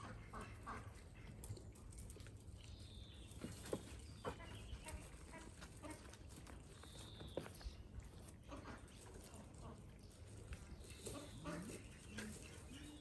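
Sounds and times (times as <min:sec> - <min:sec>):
puppies moving on paving stones: 0:00.2 - 0:13.0.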